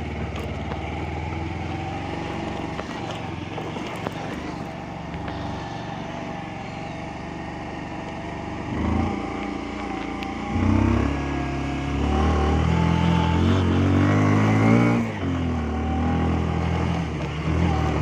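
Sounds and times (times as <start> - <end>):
vehicle engine revving: 0.0 - 7.8, 8.6 - 18.0.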